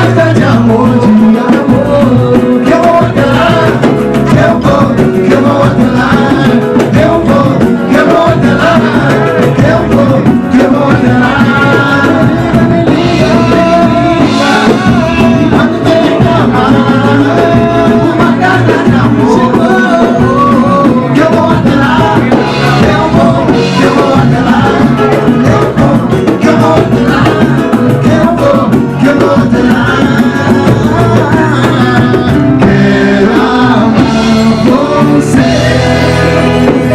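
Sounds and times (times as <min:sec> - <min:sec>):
person singing: 0:00.0 - 0:36.9
samba percussion groove: 0:00.0 - 0:36.9.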